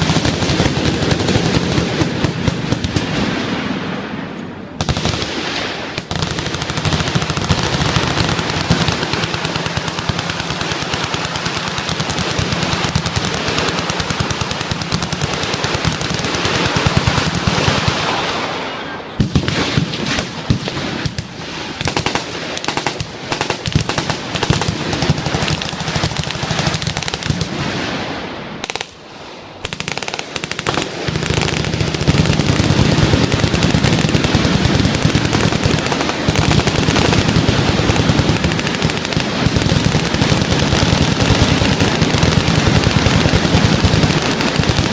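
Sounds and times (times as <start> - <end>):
machine guns firing full-auto: 0.0 - 4.0, 4.8 - 29.0, 29.6 - 44.9.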